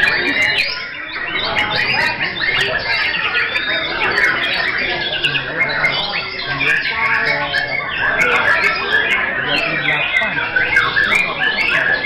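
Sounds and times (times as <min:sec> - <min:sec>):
chorus of songbirds singing: 0:00.0 - 0:12.0.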